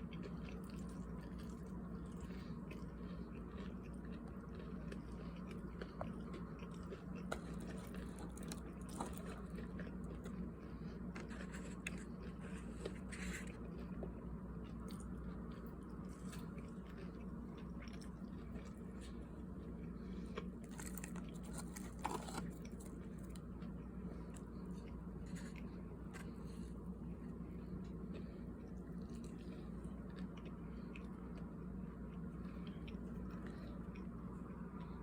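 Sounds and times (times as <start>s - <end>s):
low hum: 0.0s - 35.0s
person chewing crispy food: 0.0s - 35.0s.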